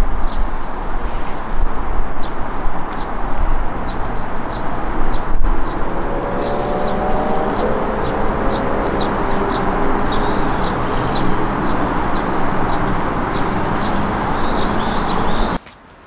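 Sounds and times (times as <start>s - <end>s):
engine or traffic rumble: 0.0s - 15.6s.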